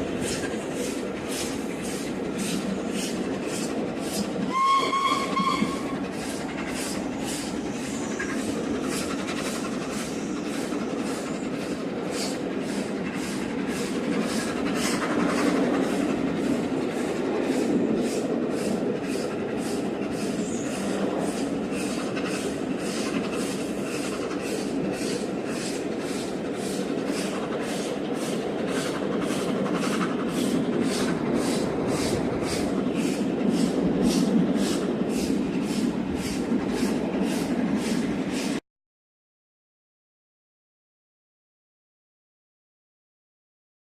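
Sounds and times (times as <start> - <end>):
steam locomotive beats: 0.0 - 38.6
steam train rumbling: 0.0 - 38.6.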